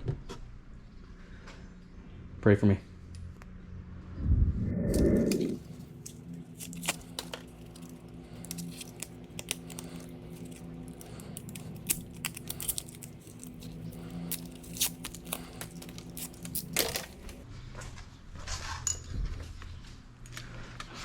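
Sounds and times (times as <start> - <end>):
steady low hum: 0.5 - 18.3.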